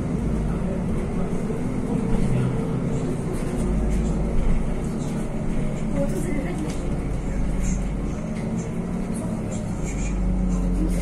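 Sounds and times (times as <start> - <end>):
bus engine drone: 0.0 - 11.0
road and tyre noise: 0.0 - 11.0.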